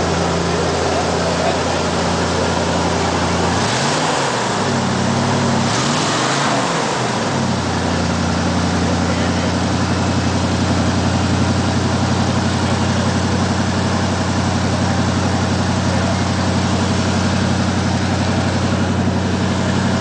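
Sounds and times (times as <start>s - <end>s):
engine idling with deep rumble: 0.0s - 20.0s.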